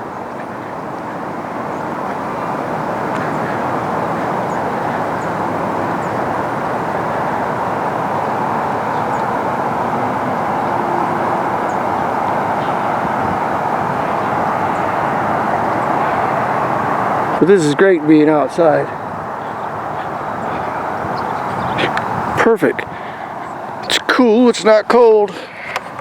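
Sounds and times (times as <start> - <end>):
distant vehicle noise: 0.0 - 26.0.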